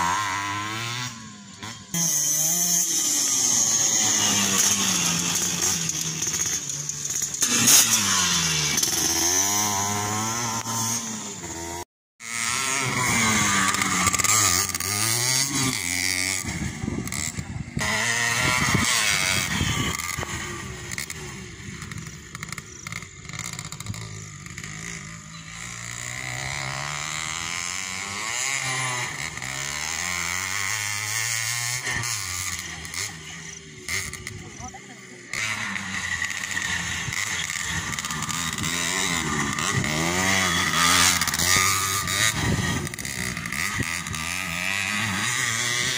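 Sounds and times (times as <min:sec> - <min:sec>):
motocross bikes revving: 0:00.0 - 0:45.9.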